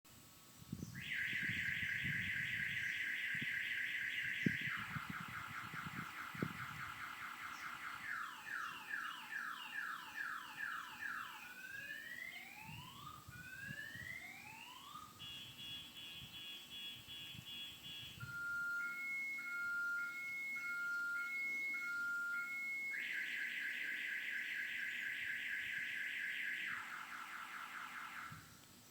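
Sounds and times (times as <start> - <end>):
car alarm siren cycling tones: 0.8 - 28.6.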